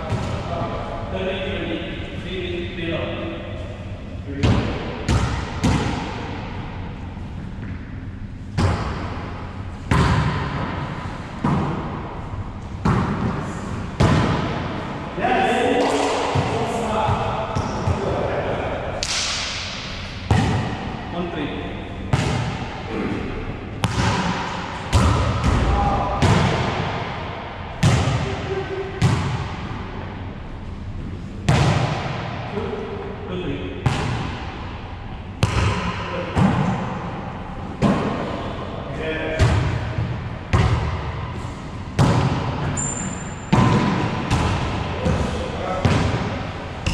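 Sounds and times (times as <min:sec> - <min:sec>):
ball slaps echoing: 0:00.0 - 0:00.9, 0:03.5 - 0:30.2, 0:31.4 - 0:46.9.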